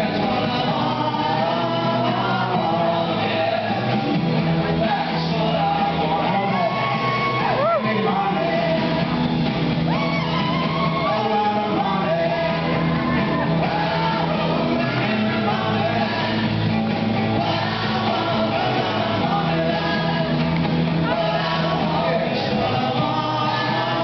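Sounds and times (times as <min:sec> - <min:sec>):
shouted singing: 0:00.0 - 0:04.0, 0:04.6 - 0:24.0
electric guitar: 0:00.0 - 0:24.0
held bass notes: 0:00.0 - 0:24.0
rock music: 0:00.0 - 0:24.0.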